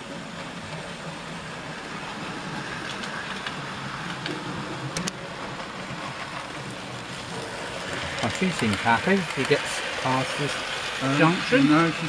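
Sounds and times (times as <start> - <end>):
model train rumbling on track: 0.0 - 12.0.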